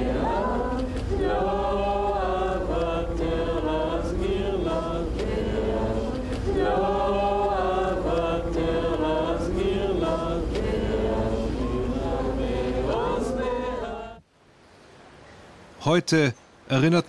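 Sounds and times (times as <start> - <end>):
crowd singing slow melody: 0.0 - 14.2.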